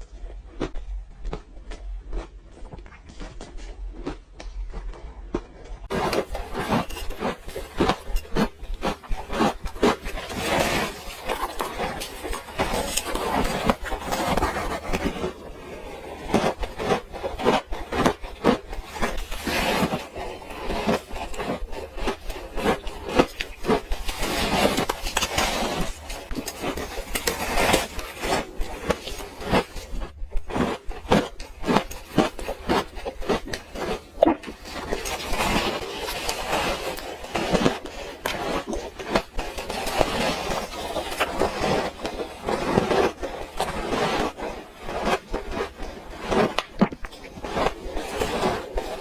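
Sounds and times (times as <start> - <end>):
chewing and crunching ice: 0.0 - 49.0.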